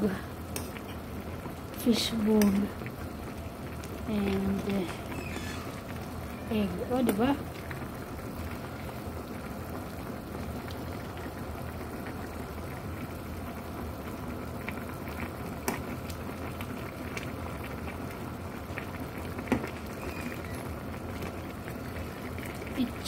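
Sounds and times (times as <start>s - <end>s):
broth bubbling in a pot: 0.0s - 23.0s.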